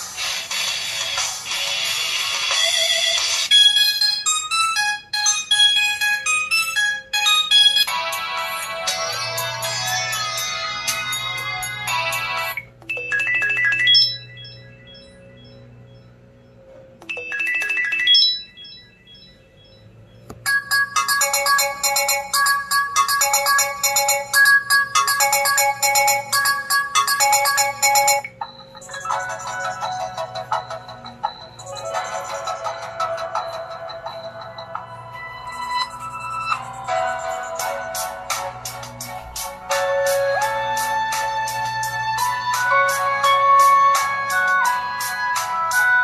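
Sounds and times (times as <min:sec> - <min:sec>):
fast-repeating ringtone melody: 0:00.0 - 0:46.0
phone ringtone tune: 0:01.9 - 0:46.0.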